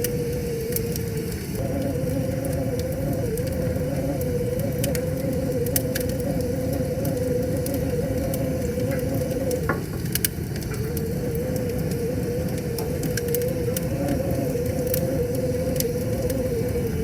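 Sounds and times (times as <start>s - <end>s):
campfire crackling and popping: 0.0s - 17.0s
wavering hum: 0.0s - 17.0s.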